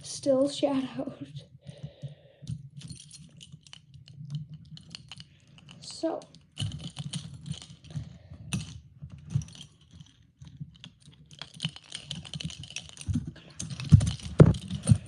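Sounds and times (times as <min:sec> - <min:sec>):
metal handcuffs clicking and rattling: 0:02.4 - 0:15.0.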